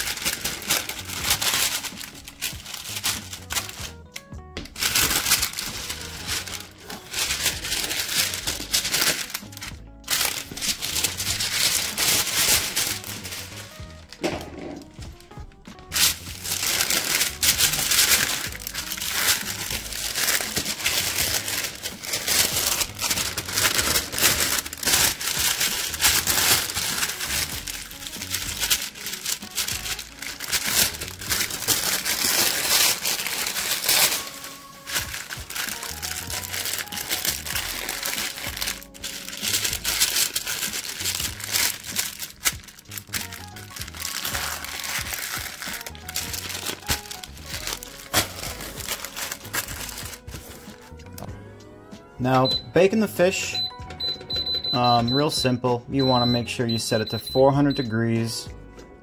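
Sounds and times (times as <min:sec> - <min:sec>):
parchment paper crinkling: 0:00.0 - 0:51.3
background music: 0:00.0 - 0:59.0.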